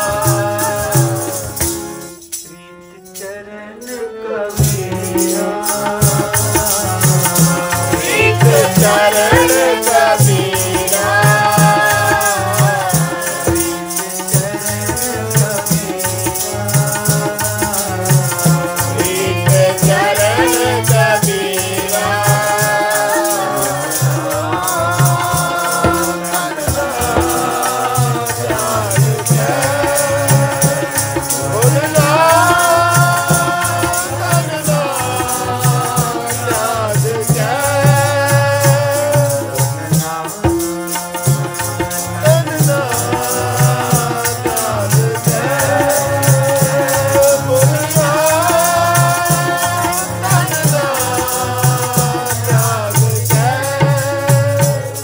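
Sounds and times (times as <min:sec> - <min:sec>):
voices singing a hymn: 0:00.0 - 0:02.2, 0:03.0 - 0:55.0
harmonium: 0:00.0 - 0:55.0
hand drum beat: 0:04.7 - 0:55.0.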